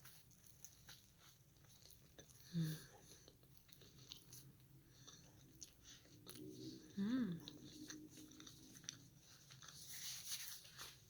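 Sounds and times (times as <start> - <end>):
chewing a hamburger: 0.0 - 11.0.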